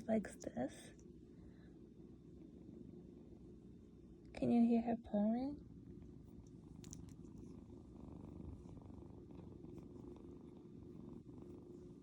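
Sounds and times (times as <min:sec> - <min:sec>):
kitten purring: 0:02.2 - 0:12.0.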